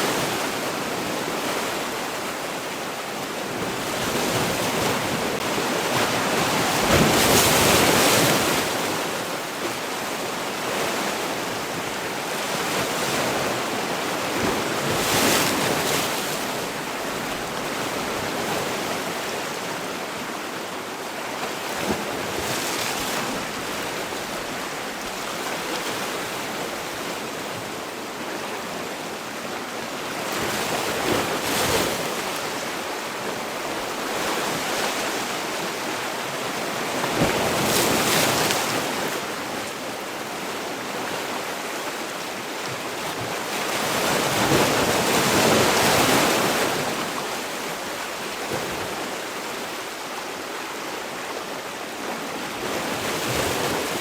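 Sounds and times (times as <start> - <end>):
sea waves surging: 0.0 - 54.0.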